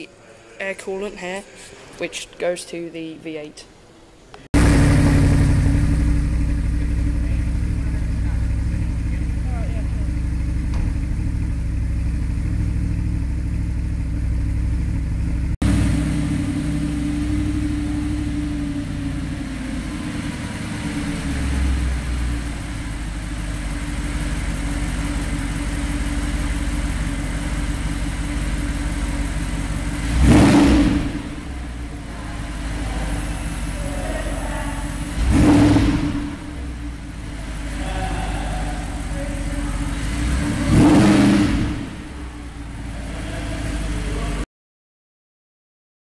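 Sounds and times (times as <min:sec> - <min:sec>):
car engine idling: 0:04.2 - 0:44.4
engine rev blip: 0:04.6 - 0:44.4.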